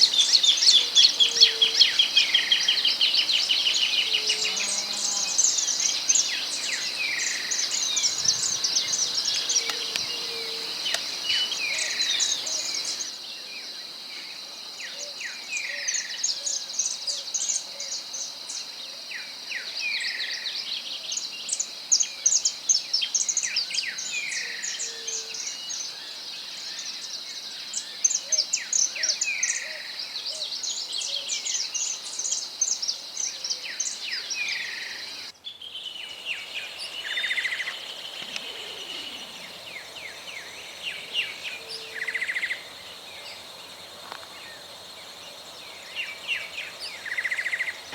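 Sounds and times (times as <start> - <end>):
high insect drone: 0.0 - 16.1, 23.3 - 47.9
songbirds chirping: 0.0 - 47.9.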